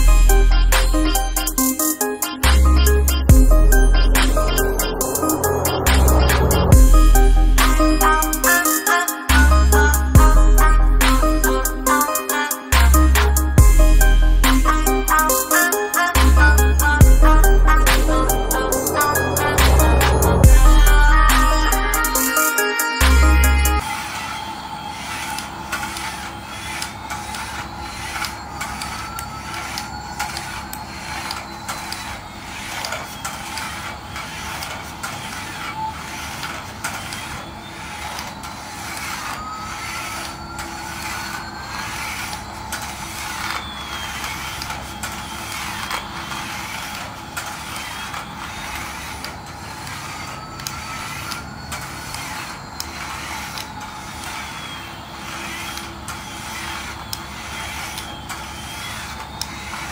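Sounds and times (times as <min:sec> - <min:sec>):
toy electric motor hum: 0:00.0 - 0:59.9
toy sound effect whine: 0:00.0 - 0:59.9.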